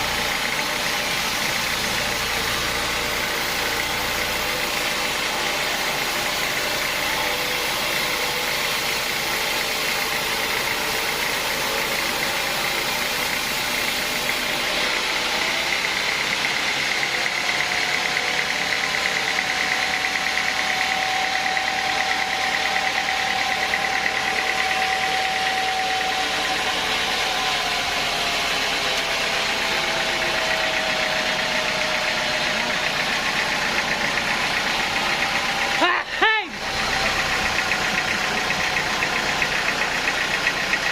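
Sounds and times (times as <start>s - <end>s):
high saw whine: 0.0s - 40.9s
lower machine tone: 0.0s - 40.9s
sawmill machinery running: 0.0s - 40.9s.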